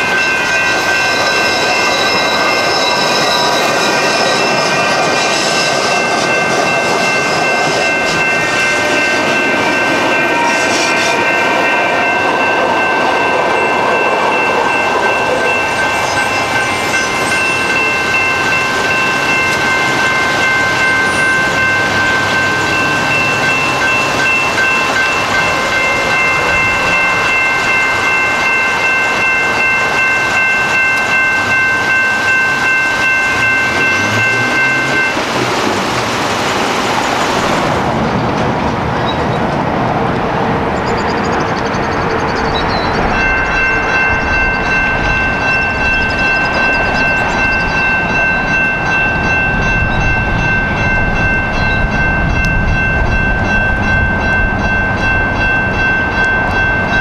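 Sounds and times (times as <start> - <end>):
railroad crossing bell ringing: 0.0 - 57.0.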